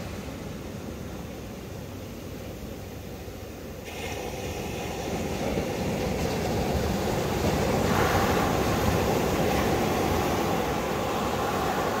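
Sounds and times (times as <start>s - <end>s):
ocean surf breaking on beach: 0.0s - 12.0s.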